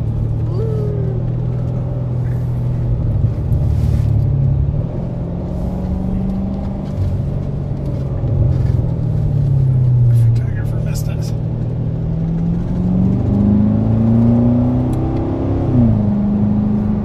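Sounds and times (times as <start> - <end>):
car engine drone from cabin: 0.0 - 17.0.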